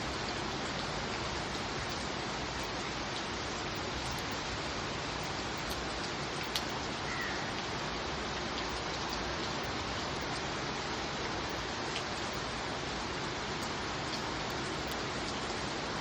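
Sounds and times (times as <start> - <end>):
steady rain falling: 0.0 - 16.0
rain drop ticks: 0.1 - 16.0.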